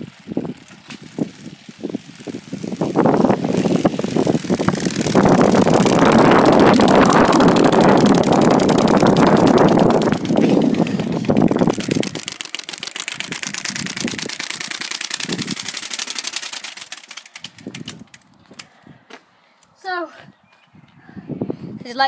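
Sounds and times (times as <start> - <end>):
playing cards flapping on bicycle spokes: 0.0 - 19.8.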